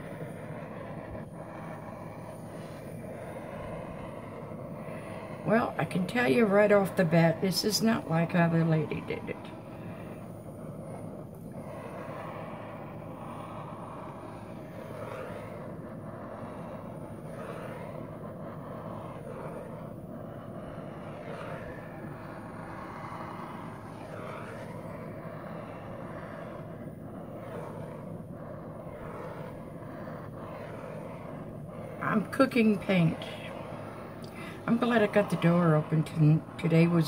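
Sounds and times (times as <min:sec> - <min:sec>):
torch flame roaring: 0:00.0 - 0:37.0.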